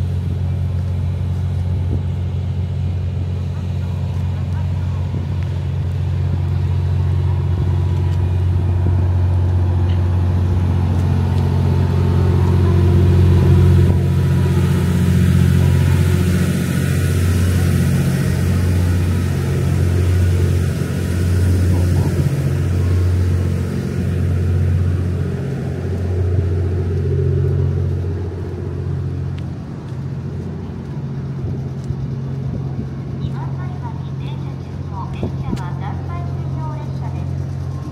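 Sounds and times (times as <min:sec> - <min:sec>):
diesel generator engine droning: 0:00.0 - 0:37.9.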